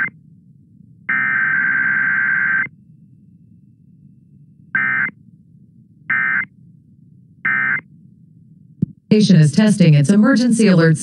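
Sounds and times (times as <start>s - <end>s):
radio hum and hiss: 0.0s - 11.0s.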